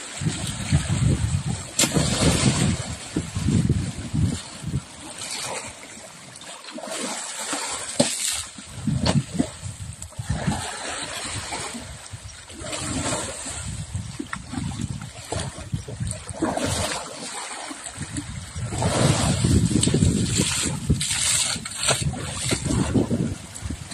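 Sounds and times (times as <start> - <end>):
elephant splashing in water: 0.0 - 9.5, 10.2 - 13.7, 14.6 - 23.9.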